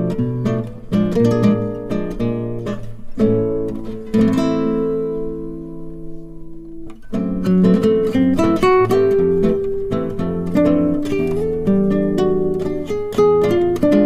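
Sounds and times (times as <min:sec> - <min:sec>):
plucked string music: 0:00.0 - 0:14.0.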